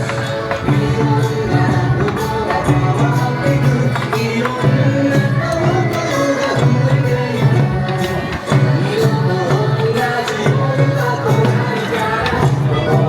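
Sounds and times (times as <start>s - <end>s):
person singing melody: 0.0s - 13.0s
steady percussion beat: 0.0s - 13.0s.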